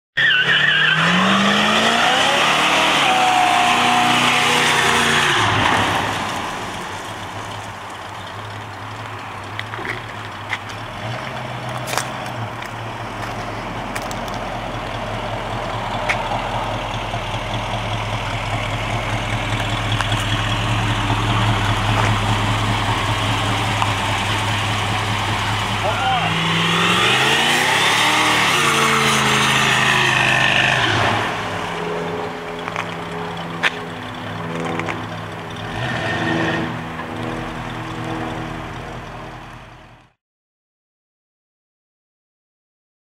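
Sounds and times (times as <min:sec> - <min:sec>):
tyres spinning and screeching: 0:00.2 - 0:39.2
car engine revving: 0:00.2 - 0:39.7.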